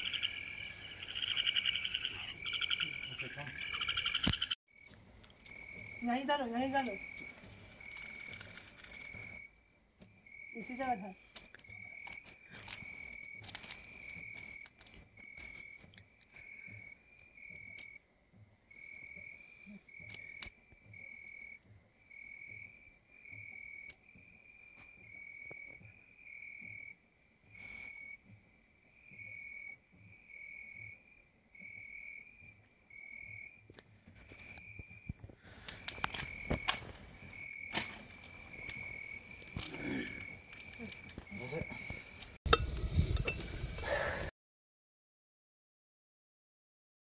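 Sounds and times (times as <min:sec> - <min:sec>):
high-pitched insect chorus: 0:00.0 - 0:43.1
cricket-like chirp: 0:00.0 - 0:44.2.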